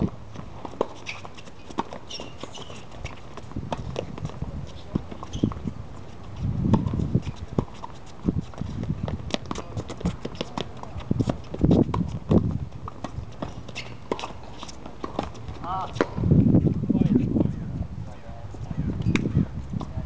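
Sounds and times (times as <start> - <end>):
tennis ball bouncing: 0.0 - 6.1, 6.7 - 16.2, 19.0 - 19.9
racquets hitting tennis ball: 0.0 - 16.3.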